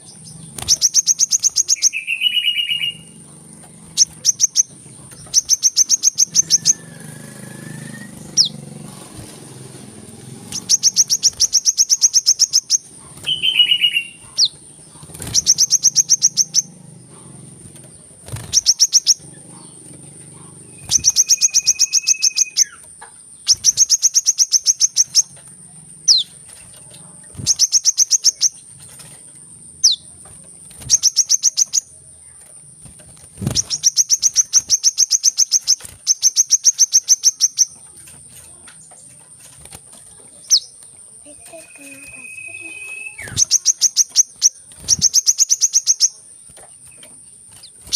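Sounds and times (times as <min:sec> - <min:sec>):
high-pitched ticking bird trills: 0:00.0 - 0:47.9.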